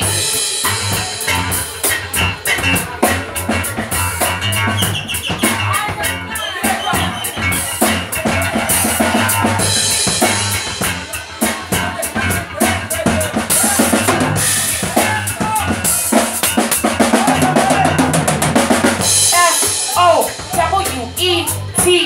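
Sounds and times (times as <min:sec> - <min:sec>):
drum kit beat: 0:00.0 - 0:22.0
live band playing: 0:00.0 - 0:22.0.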